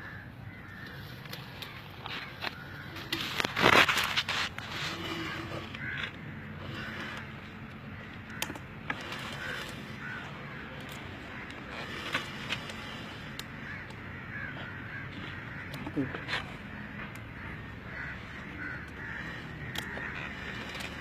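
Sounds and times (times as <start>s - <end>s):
crows cawing: 0.0s - 4.1s, 4.9s - 21.0s.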